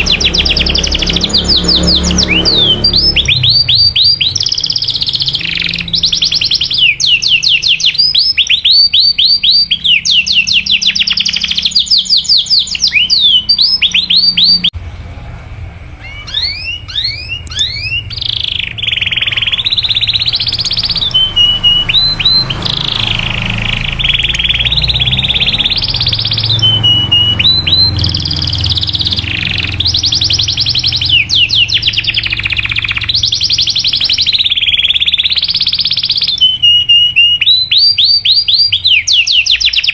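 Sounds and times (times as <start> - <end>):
canary singing trills: 0.0 - 14.8, 15.9 - 39.9.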